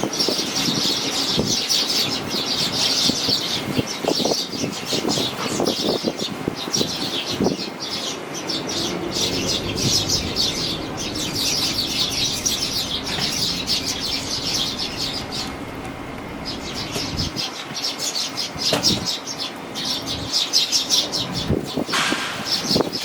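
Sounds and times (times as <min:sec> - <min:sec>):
strong wind: 0:00.0 - 0:17.8, 0:21.1 - 0:23.0
young sparrows chirping: 0:00.0 - 0:23.0.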